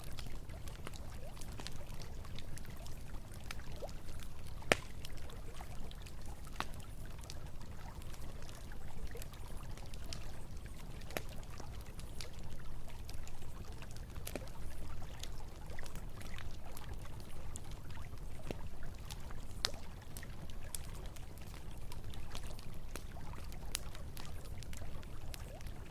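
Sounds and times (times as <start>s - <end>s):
campfire crackling and popping: 0.0s - 25.9s
flowing river water: 0.0s - 25.9s.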